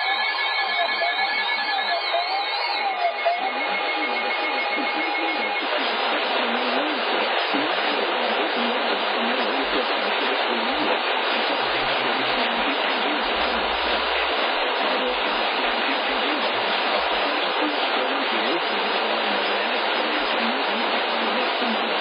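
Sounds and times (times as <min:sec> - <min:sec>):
radio static hiss: 0:00.8 - 0:22.0.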